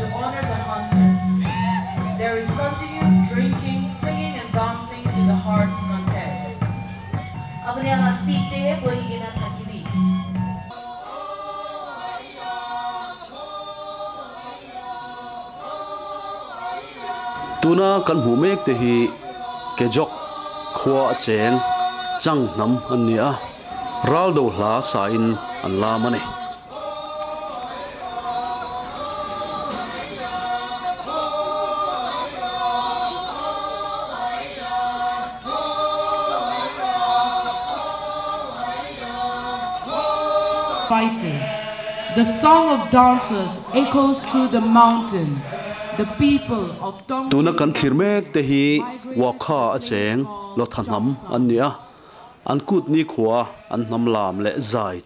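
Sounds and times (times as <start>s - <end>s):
group singing unaccompanied: 0.0s - 55.0s.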